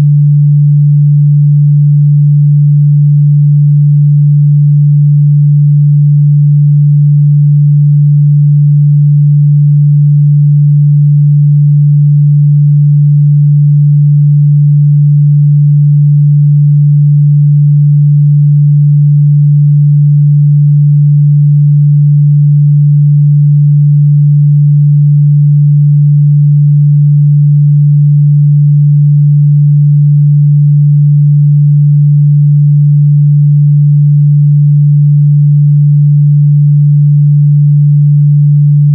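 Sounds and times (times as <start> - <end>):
low sine-wave test tone: 0.0 - 38.9.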